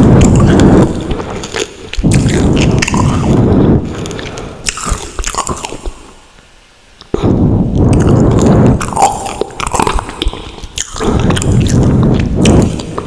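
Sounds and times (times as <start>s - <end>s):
person chewing: 0.0s - 6.2s, 7.8s - 13.0s.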